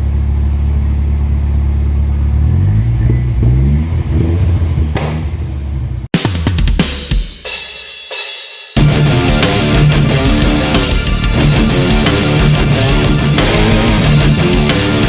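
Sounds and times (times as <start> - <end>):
car engine revving: 0.0 - 6.1, 8.8 - 15.0.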